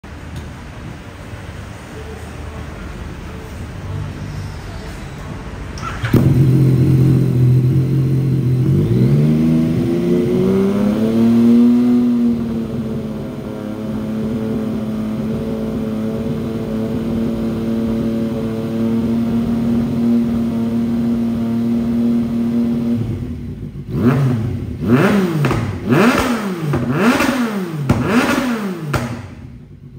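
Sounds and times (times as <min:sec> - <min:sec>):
motorcycle engine running: 0:05.8 - 0:29.9
motorcycle throttle blips: 0:05.8 - 0:29.9.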